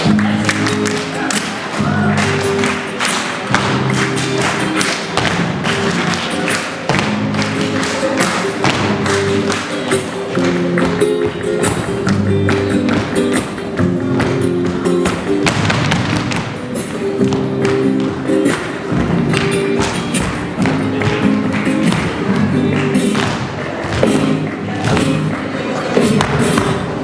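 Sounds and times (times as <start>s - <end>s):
flamenco music: 0.0s - 27.0s.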